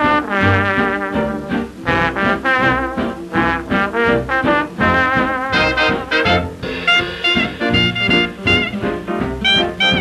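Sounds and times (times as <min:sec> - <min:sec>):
dance band playing fox trot: 0:00.0 - 0:10.0.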